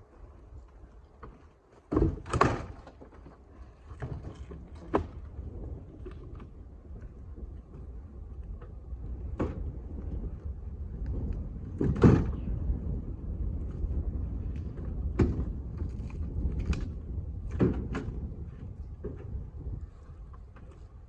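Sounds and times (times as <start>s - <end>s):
steady low rumble: 3.5s - 21.0s.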